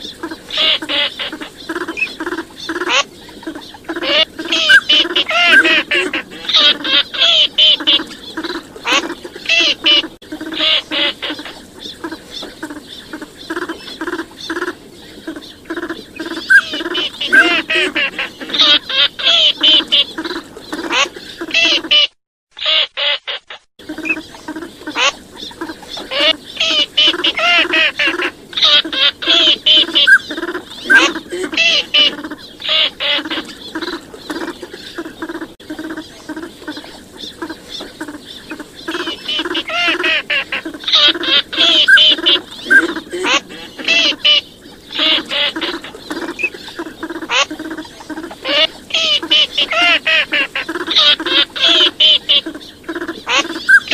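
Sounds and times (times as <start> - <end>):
ducks quacking and calling: 0.0 - 53.9.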